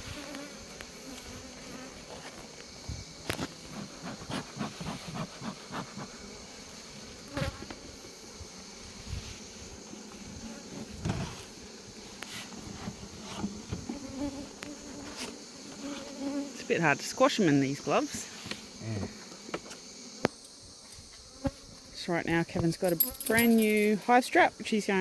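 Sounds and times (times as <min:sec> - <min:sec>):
honey bees buzzing: 0:00.0 - 0:25.0.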